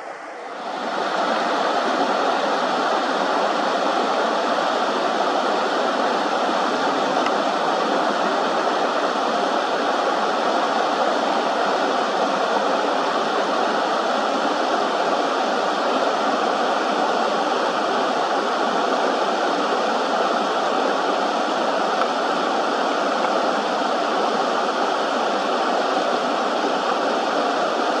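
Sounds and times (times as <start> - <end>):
river water flowing: 0.0 - 28.0.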